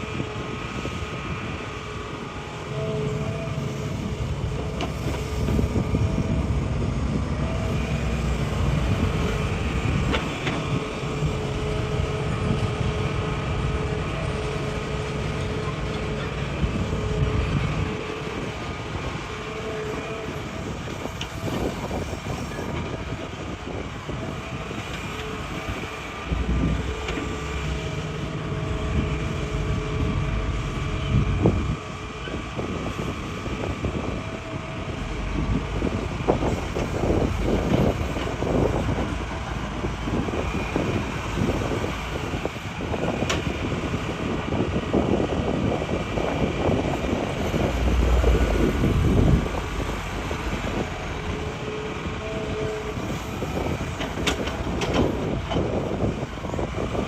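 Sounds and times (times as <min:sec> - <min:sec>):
excavator diesel engine: 0:00.0 - 0:57.0
hydraulic whine: 0:00.0 - 0:57.0.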